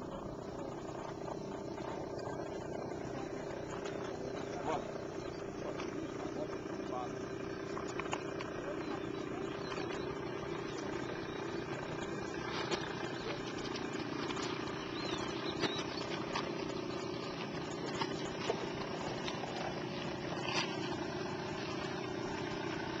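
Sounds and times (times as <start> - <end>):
quad bike engines idling: 0.0 - 23.0.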